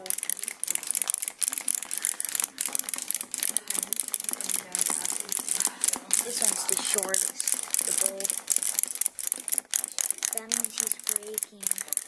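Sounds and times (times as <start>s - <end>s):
clockwork springs unwinding: 0.0s - 12.0s
wind-up toys clicking rattle: 0.0s - 12.0s.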